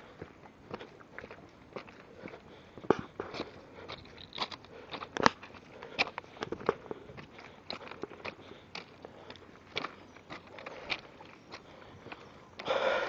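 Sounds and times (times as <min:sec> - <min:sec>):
footsteps crunching on track ballast: 0:00.0 - 0:13.0.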